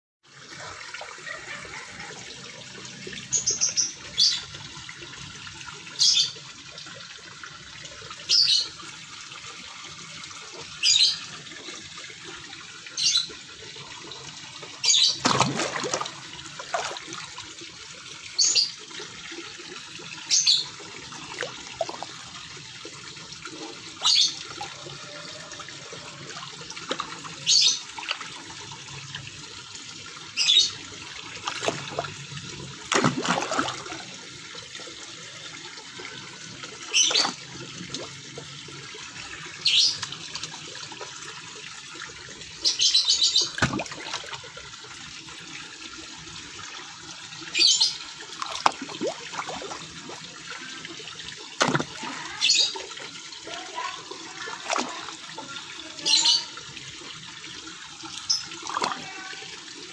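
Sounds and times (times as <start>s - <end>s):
fish splashing in pond water: 0.3s - 59.9s.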